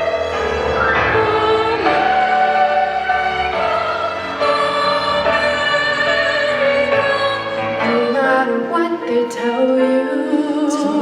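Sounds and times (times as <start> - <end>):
operatic singing with accompaniment: 0.0 - 11.0.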